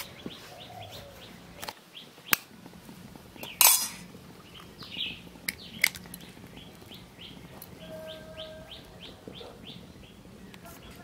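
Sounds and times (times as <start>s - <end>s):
faint birds chirping: 0.0s - 11.0s
eggshell crackling: 1.5s - 11.0s.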